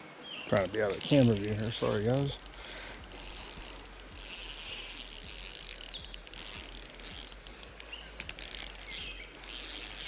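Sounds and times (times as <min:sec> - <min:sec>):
fishing reel whirring: 0:00.5 - 0:10.0.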